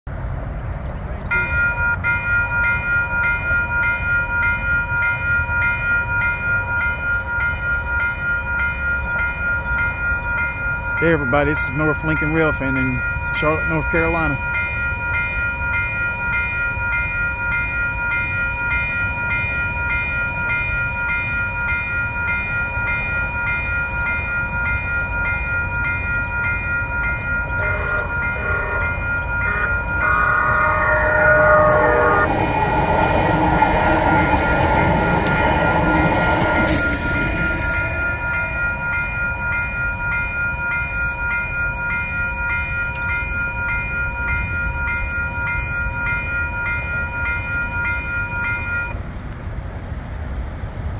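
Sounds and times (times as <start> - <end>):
light rail train passing: 0.1 - 50.9
railroad crossing bell ringing: 0.7 - 50.9.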